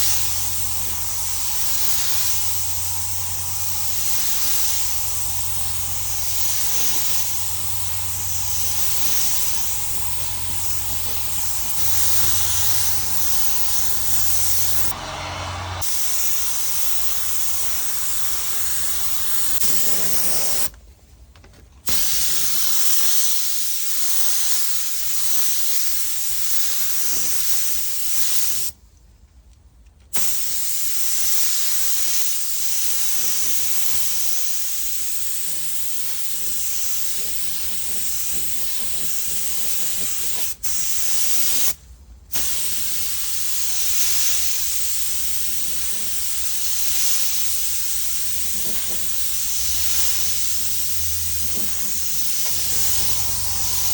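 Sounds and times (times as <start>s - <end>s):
spray gun hissing: 0.0s - 20.7s, 21.9s - 28.8s, 30.2s - 53.9s.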